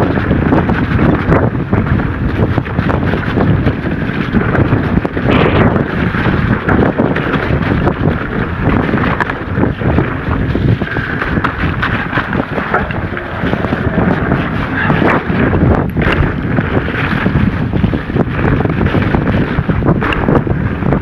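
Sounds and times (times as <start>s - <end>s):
bike knocks and rattles: 0.0s - 21.0s
wind rumbling on microphone: 0.0s - 21.0s.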